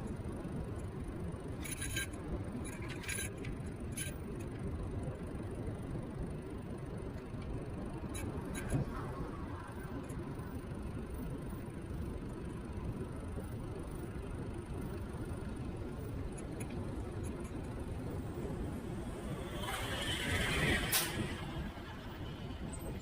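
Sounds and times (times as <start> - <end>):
wind and road rumble: 0.0 - 23.0.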